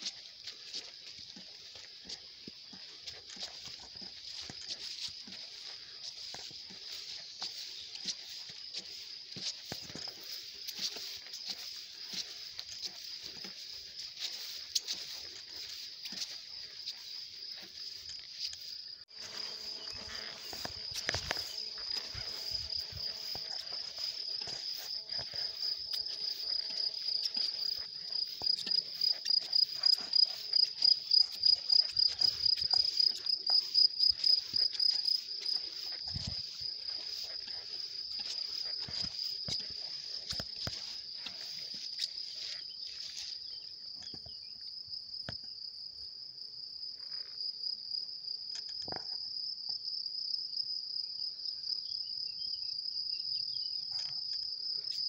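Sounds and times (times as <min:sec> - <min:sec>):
footsteps through grass: 0:00.0 - 0:44.2
crickets chirring: 0:00.0 - 0:55.0.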